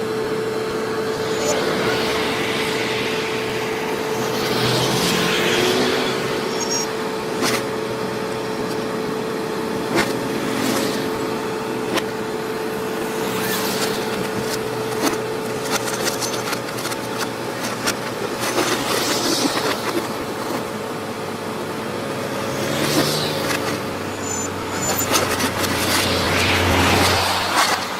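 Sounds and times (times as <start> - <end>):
constant whine: 0.0 - 27.9
diesel engine running: 0.0 - 27.9.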